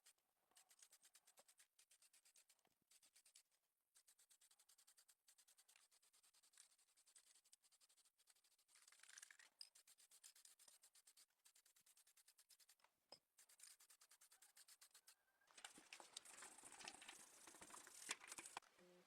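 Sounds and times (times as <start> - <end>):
rubbing strokes on model car body: 0.0 - 18.6.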